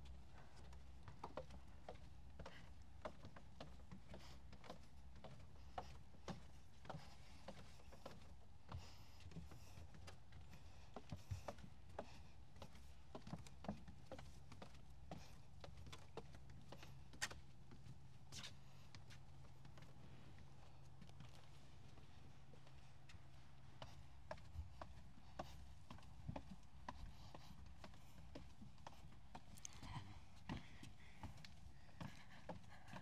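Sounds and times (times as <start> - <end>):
faint footsteps walking: 0.0 - 33.0.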